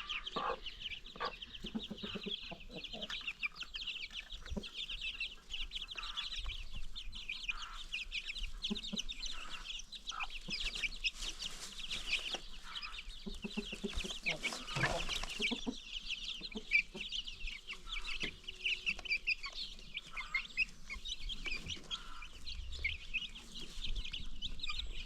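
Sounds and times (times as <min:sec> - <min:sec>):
chicks peeping: 0:00.0 - 0:25.0
hens clucking: 0:00.0 - 0:25.0.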